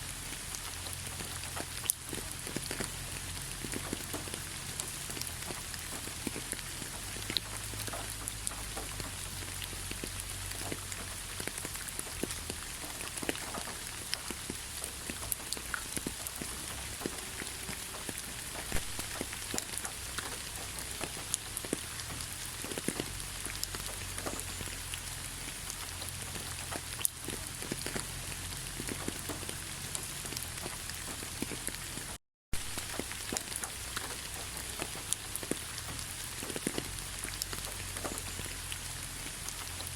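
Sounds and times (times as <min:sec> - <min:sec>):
rain drops ticking: 0:00.0 - 0:39.9.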